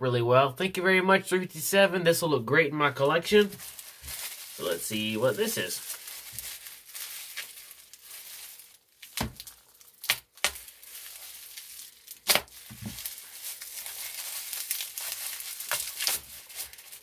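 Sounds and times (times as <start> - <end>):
bubble wrap crinkling and tearing: 3.0 - 17.0.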